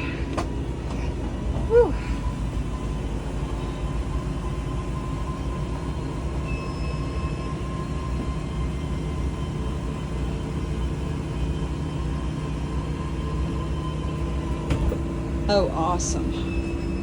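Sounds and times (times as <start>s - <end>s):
machinery rumbling and humming: 0.0s - 17.0s.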